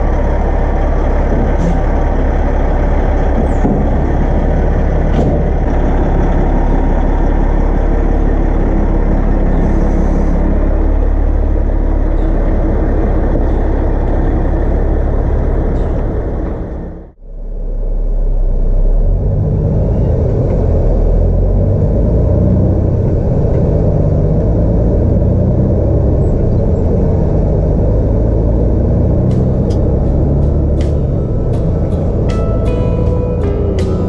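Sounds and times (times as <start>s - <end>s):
truck engine and road rumble: 0.0s - 34.0s.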